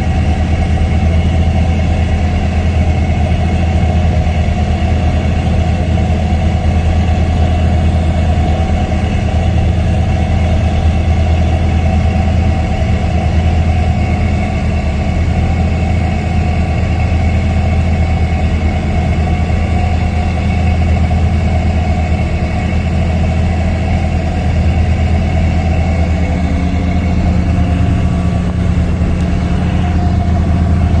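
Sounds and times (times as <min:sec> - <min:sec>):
low mechanical drone: 0:00.0 - 0:31.0.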